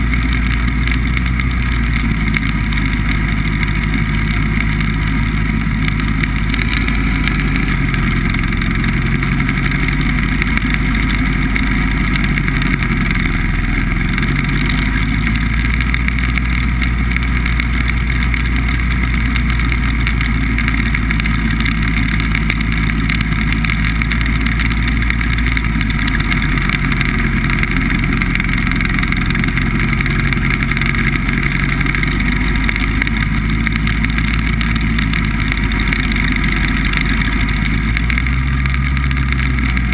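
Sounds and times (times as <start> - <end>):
hovercraft engine drone: 0.0 - 39.9.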